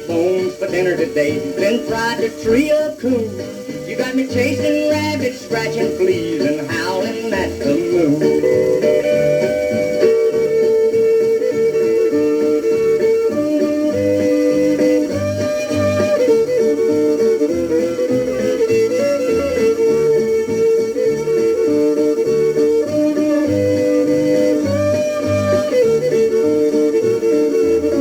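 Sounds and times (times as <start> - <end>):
plucked rhythm guitar: 0.0 - 28.0
sliding lead melody: 0.0 - 28.0.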